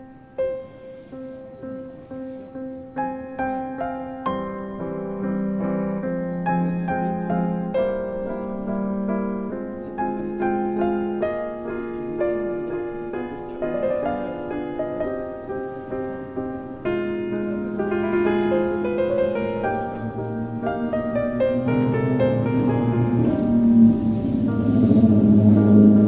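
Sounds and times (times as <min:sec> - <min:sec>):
piano melody: 0:00.0 - 0:26.0.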